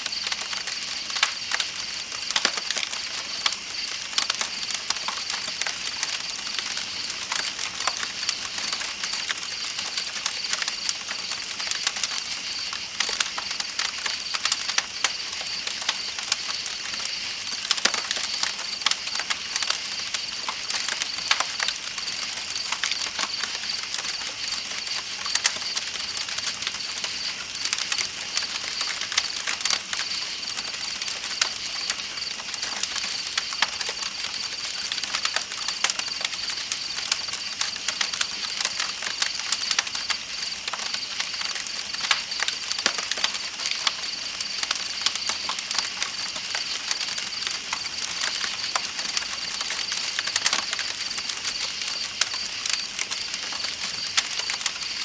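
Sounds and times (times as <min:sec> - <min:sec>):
night insects chirping: 0:00.0 - 0:55.0
campfire crackling: 0:00.1 - 0:55.0.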